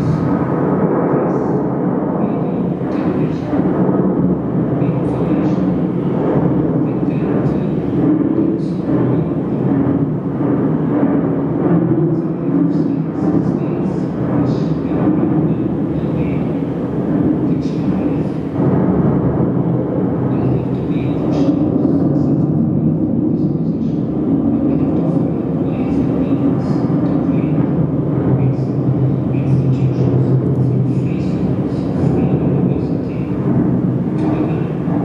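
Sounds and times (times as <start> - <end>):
deep rumble over loudspeakers: 0.0 - 35.0.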